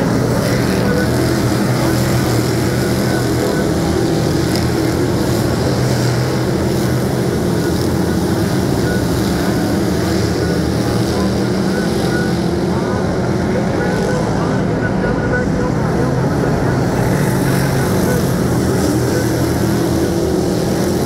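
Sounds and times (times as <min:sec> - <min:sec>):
race car engines at speed: 0:00.0 - 0:21.0.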